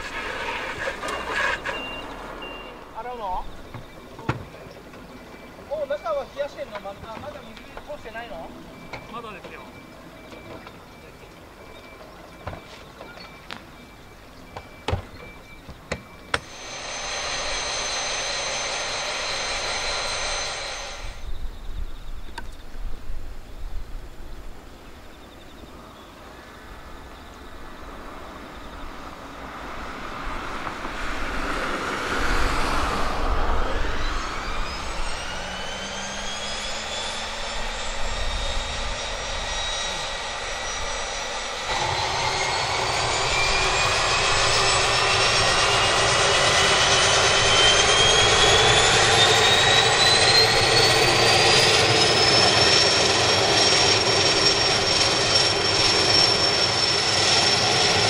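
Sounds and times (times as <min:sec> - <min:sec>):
turboprop engine whine: 0:00.0 - 0:58.0.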